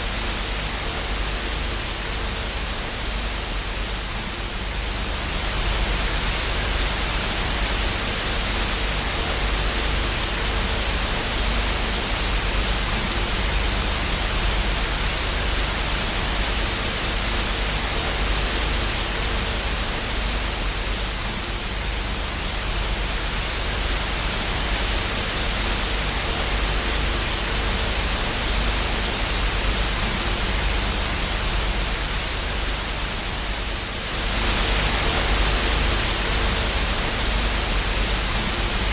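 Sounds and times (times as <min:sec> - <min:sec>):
television static hiss: 0:00.0 - 0:38.9.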